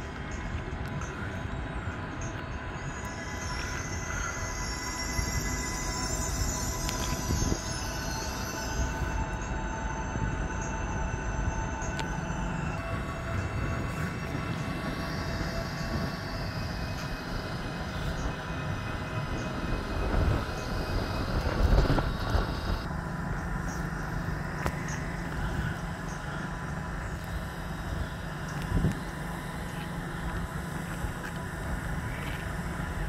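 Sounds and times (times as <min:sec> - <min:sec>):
train arriving at platform: 0:00.0 - 0:33.0.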